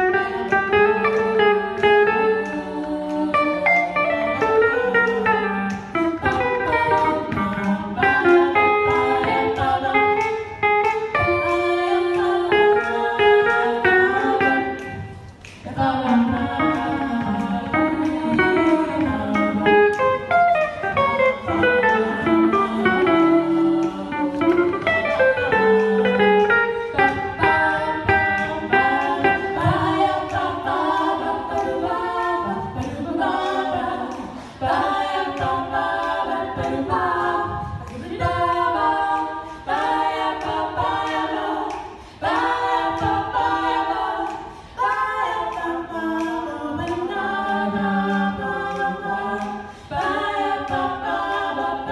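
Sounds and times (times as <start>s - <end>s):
women singing in harmony: 0.0s - 51.9s.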